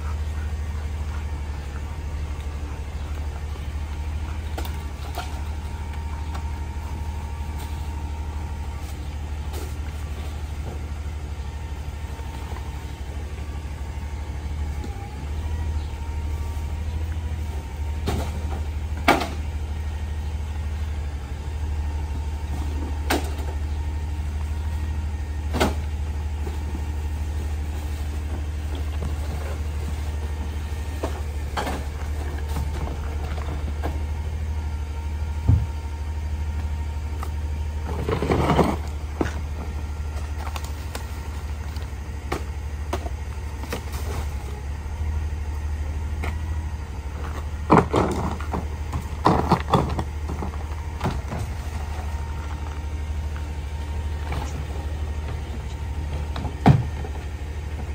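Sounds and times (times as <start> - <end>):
garbage truck engine idling: 0.0 - 57.9.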